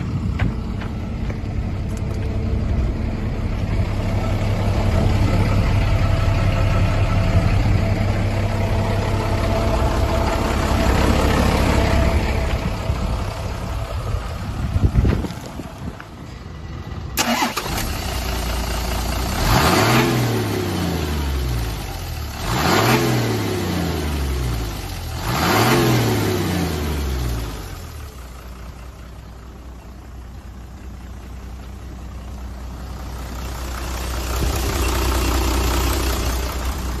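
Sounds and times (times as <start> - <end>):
diesel engine revving and idling: 0.0 - 37.0.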